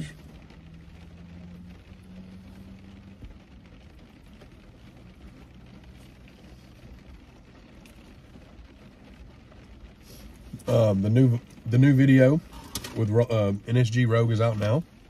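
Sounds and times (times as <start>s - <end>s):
light rain on car roof: 0.0s - 15.0s.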